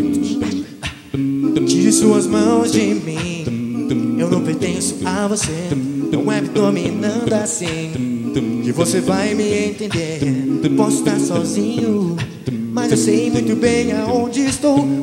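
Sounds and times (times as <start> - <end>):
male vocal group singing harmony: 0.0 - 15.0.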